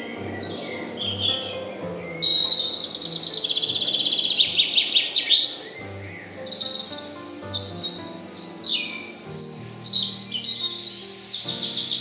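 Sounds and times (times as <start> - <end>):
soft high bird calls: 0.0 - 12.0
songbird trilling: 0.0 - 12.0.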